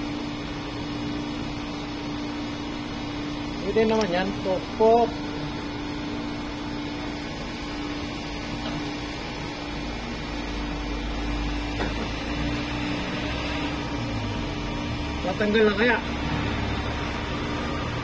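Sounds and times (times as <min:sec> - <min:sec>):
mechanical hum over hiss: 0:00.0 - 0:18.0.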